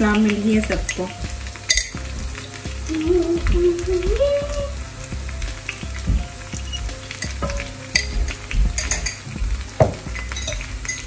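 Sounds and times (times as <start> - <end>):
onions sizzling in a wok: 0.0 - 11.0.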